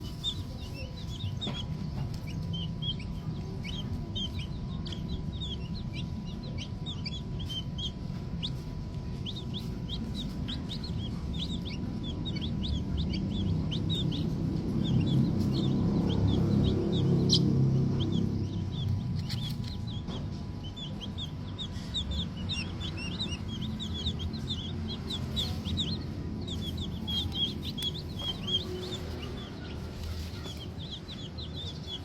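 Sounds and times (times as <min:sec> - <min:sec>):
chicks peeping: 0:00.0 - 0:32.0
low background rumble: 0:00.0 - 0:32.0.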